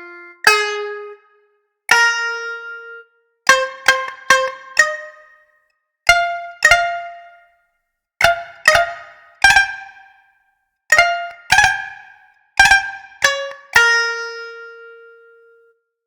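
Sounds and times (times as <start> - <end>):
plucked string notes: 0.0 - 5.4, 6.1 - 7.5, 8.2 - 10.2, 10.9 - 15.7.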